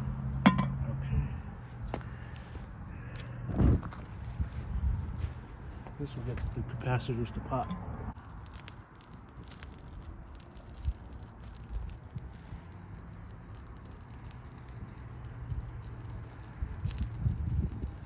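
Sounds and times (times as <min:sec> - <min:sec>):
flames crackling: 0:01.6 - 0:18.0.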